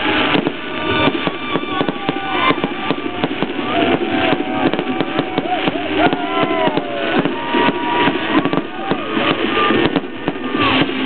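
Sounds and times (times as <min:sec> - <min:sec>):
fireworks crackling: 0:00.0 - 0:11.0
whistling fireworks: 0:00.0 - 0:11.0.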